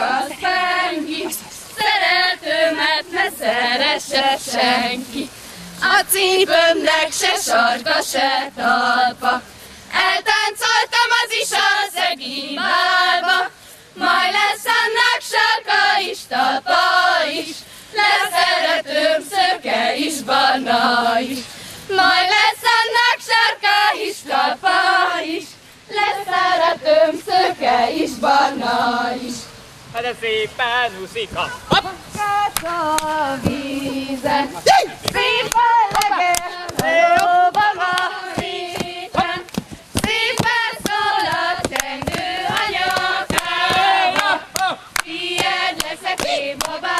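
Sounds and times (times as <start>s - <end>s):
women singing unaccompanied: 0.0s - 29.6s, 31.6s - 46.9s.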